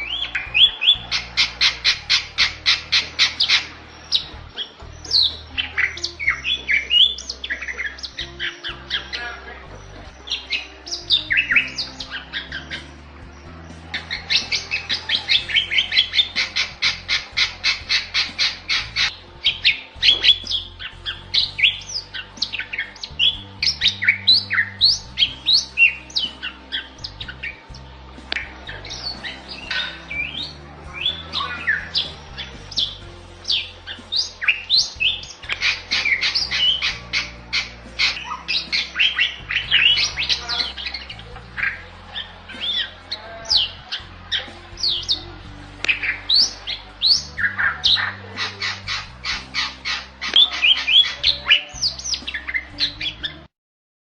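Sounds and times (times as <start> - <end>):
songbird singing: 0.0 - 53.5.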